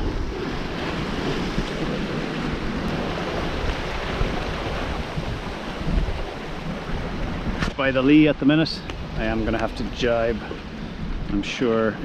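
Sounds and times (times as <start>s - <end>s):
wind rushing: 0.0s - 11.5s
waves breaking: 0.0s - 12.0s
wind buffeting microphone: 0.0s - 12.0s.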